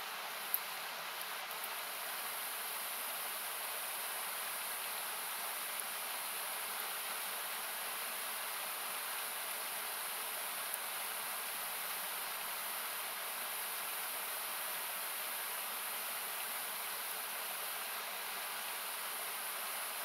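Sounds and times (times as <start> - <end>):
campfire crackles: 0.0 - 20.0.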